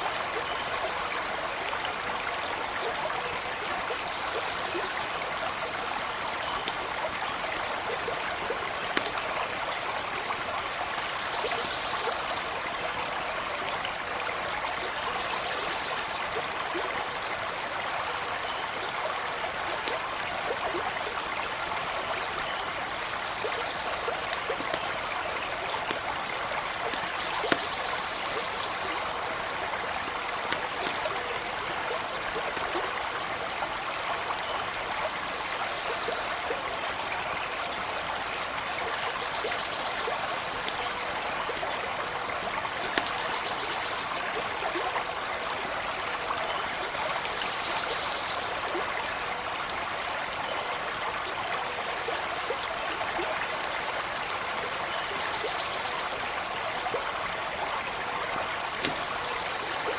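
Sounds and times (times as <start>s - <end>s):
stream running and trickling: 0.0s - 59.9s
campfire crackling: 0.1s - 47.3s, 48.2s - 59.9s.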